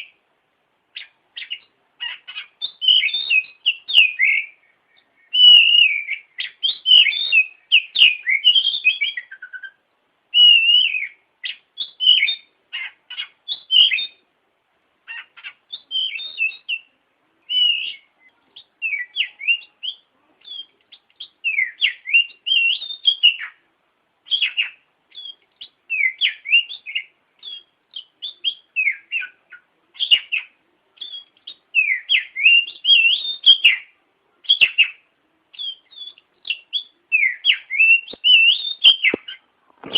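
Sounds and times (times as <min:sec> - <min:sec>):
bird singing whistled phrases: 0:01.0 - 0:14.2, 0:15.1 - 0:23.6, 0:24.3 - 0:39.4.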